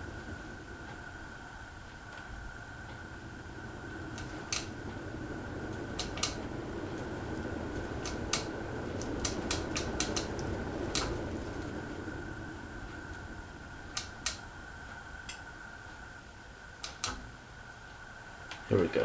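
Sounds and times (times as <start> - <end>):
ceiling fan running: 0.0 - 19.0.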